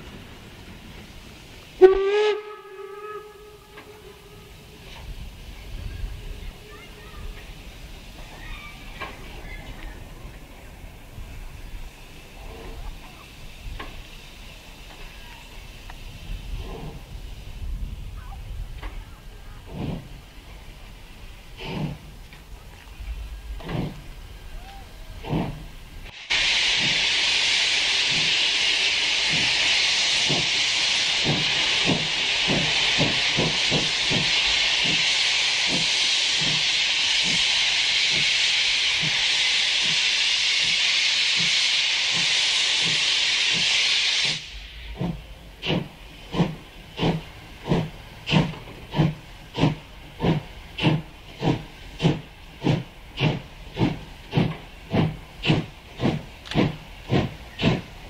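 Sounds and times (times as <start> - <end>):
steam hissing from cylinder cocks: 0.0 - 58.0
steam locomotive exhaust chuffs: 0.0 - 58.0.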